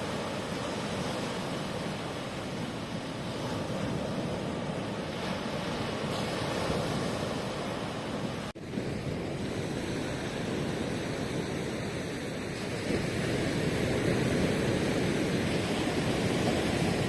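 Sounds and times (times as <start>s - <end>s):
ocean surf washing ashore: 0.0s - 17.0s.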